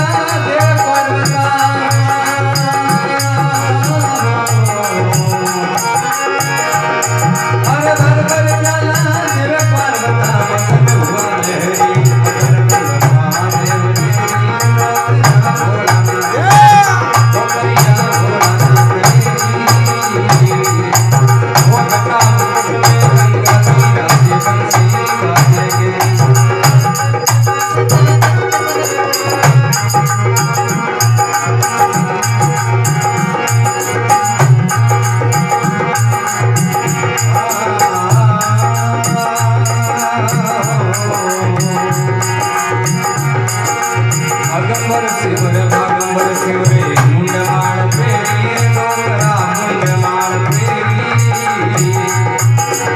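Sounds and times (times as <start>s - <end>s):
fast jingling percussion: 0.0s - 52.9s
hand drum: 0.0s - 52.9s
sustained melody line: 0.0s - 52.9s.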